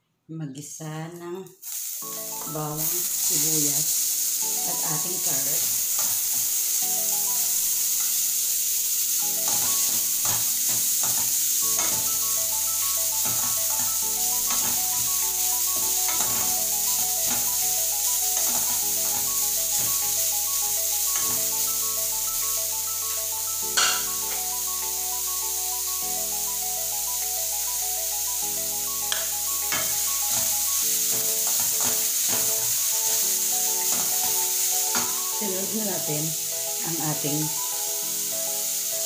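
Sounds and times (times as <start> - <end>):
vegetables sizzling in hot oil: 1.4 - 39.0
background music: 2.0 - 39.0.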